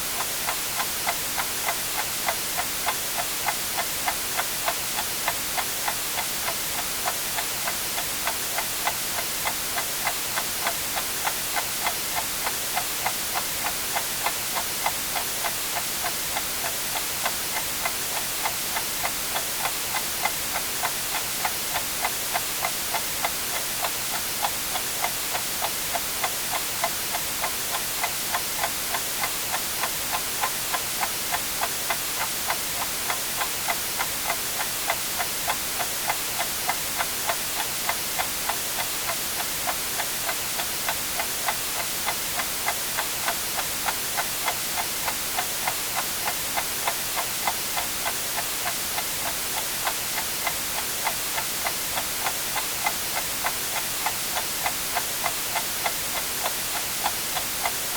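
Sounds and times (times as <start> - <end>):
white-noise hiss: 0.0 - 57.9
clock ticking: 0.2 - 57.9.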